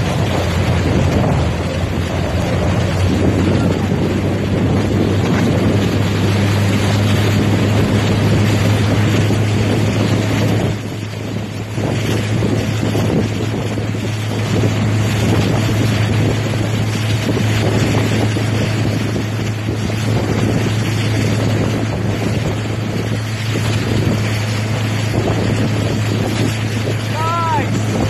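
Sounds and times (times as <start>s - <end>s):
boat engine drone: 0.0s - 28.0s
water rushing: 0.0s - 28.0s
wind buffeting microphone: 0.0s - 28.0s.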